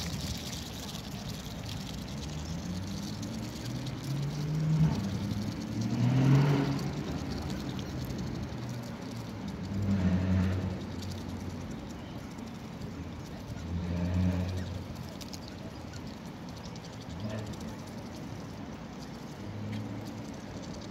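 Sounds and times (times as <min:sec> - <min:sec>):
motor vehicle engine hum: 0:00.0 - 0:20.9.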